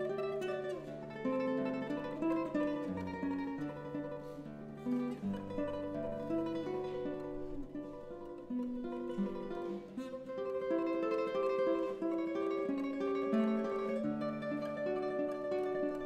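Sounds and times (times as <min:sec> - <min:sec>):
fingerstyle classical guitar: 0:00.0 - 0:16.0.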